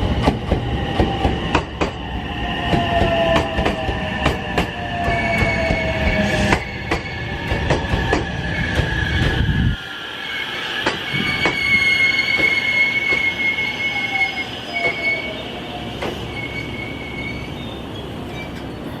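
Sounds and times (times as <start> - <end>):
train wheels squealing on rails: 0.2 - 19.0.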